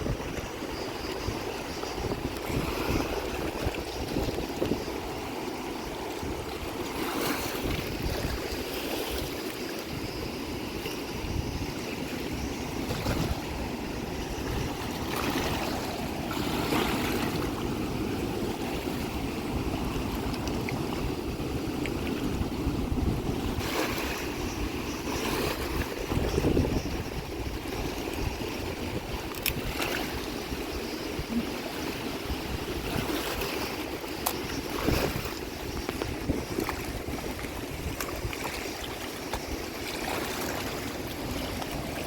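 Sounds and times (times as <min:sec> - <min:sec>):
flowing water: 0:00.0 - 0:42.0
wind buffeting microphone: 0:00.0 - 0:42.0.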